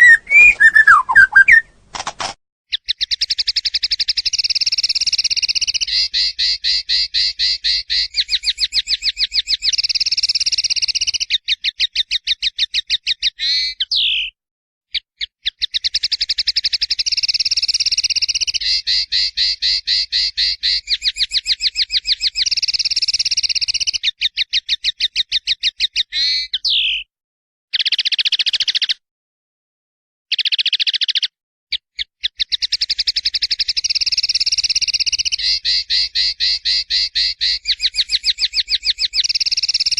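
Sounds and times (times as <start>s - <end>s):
songbird singing trills: 0.0s - 1.8s, 2.8s - 14.3s, 15.5s - 27.1s, 32.0s - 39.9s.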